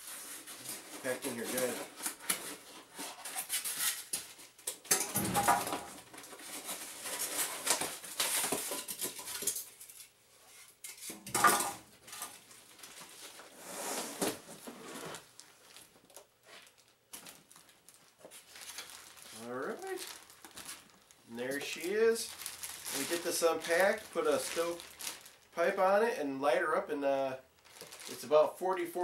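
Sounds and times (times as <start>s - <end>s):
foam and plastic rustling: 0.0s - 4.6s, 5.3s - 9.8s, 12.0s - 25.8s, 27.6s - 29.0s.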